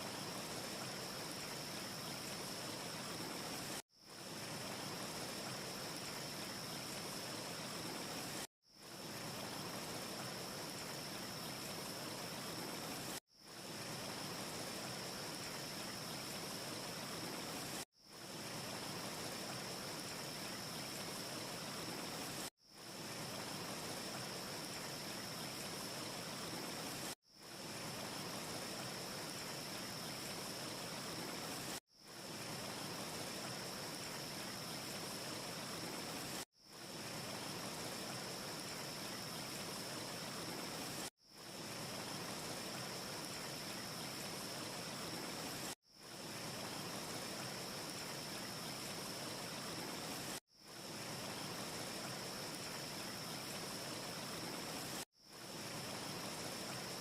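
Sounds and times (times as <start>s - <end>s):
faint high hiss: 0.0s - 57.0s.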